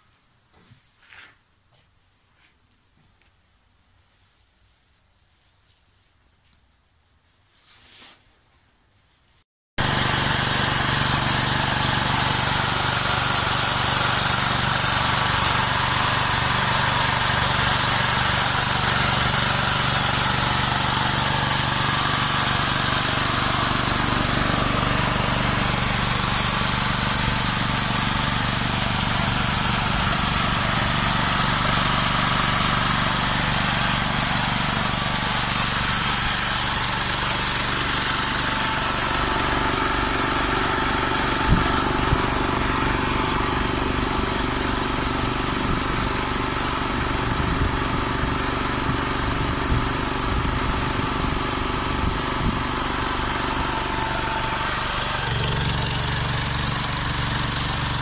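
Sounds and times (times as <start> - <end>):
generator engine running: 9.8 - 58.0.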